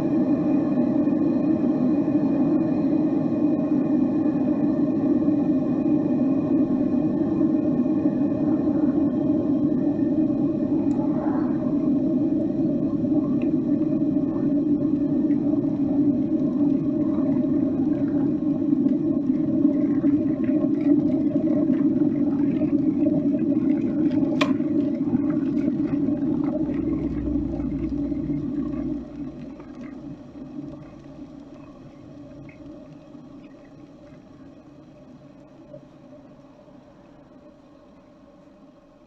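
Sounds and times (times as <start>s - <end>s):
water boiling in kettle: 0.0s - 39.0s.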